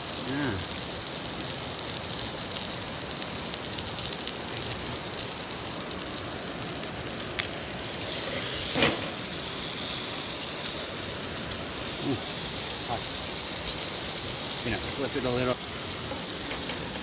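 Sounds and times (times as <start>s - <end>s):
fire crackles: 0.0s - 17.0s
fish sizzling in a pan: 0.0s - 17.0s.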